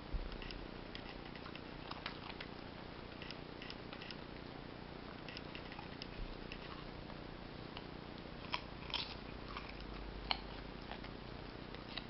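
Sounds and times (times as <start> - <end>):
puppy chewing carrot: 0.3 - 4.1, 5.2 - 12.0.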